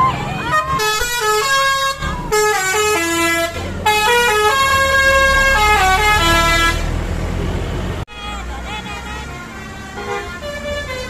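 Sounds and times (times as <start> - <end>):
multi-tone musical vehicle horn: 0.0 - 7.0, 8.1 - 11.0
engine low rumble: 0.0 - 11.0.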